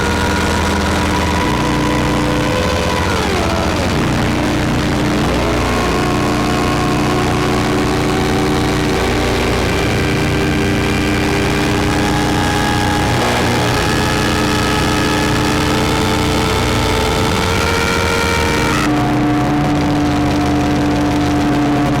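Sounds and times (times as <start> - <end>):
buzzing electronic drone: 0.0 - 22.0.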